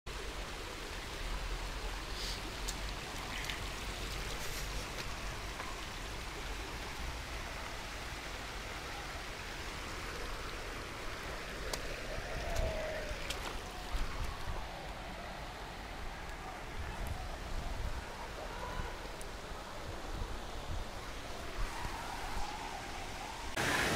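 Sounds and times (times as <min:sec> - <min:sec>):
water flowing over stones: 0:00.1 - 0:23.9.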